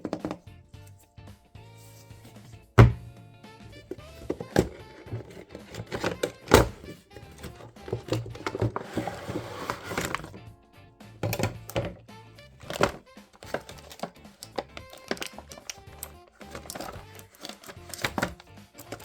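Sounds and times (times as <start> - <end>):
packaging thunks and clicks: 0.0 - 0.4, 1.9 - 3.1, 3.7 - 10.4, 11.2 - 19.0
background music: 0.0 - 19.0.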